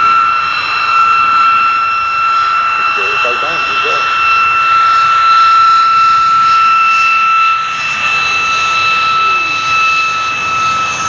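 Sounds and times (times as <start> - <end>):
jet engine whistle: 0.0 - 11.0.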